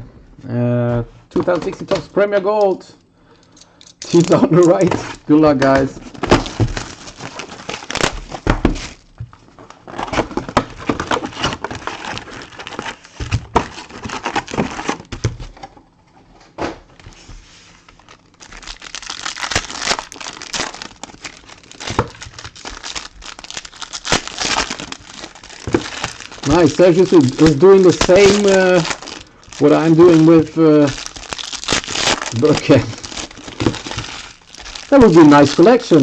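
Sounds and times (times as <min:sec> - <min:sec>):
card wrappers crinkling and tearing: 0:04.1 - 0:15.3, 0:17.8 - 0:36.0.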